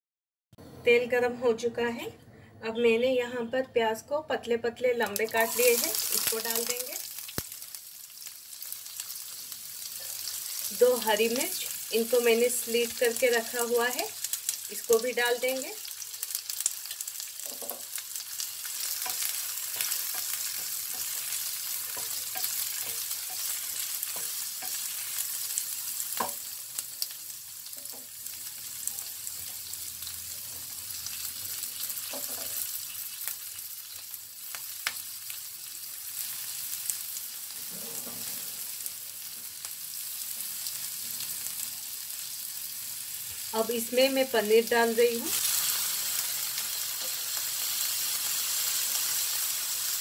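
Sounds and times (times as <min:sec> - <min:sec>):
onions sizzling in hot oil: 0:04.8 - 0:50.0.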